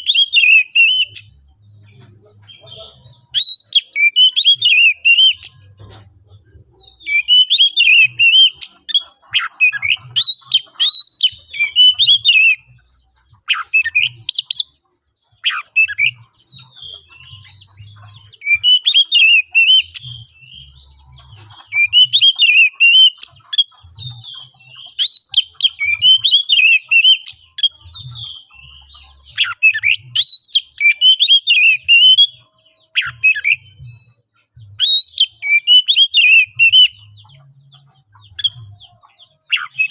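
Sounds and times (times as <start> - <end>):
bird singing whistles and harsh notes: 0.0 - 1.4, 2.4 - 5.9, 6.8 - 12.8, 15.4 - 34.1, 34.8 - 37.1, 39.5 - 39.9.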